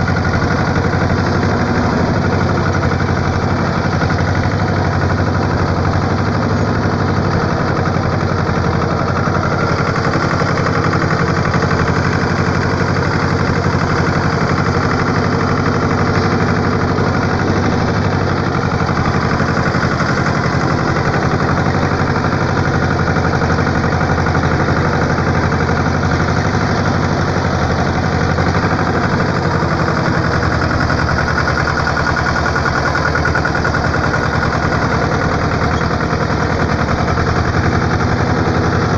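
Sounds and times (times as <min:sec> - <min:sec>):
engine running with pulsing: 0:00.0 - 0:38.9.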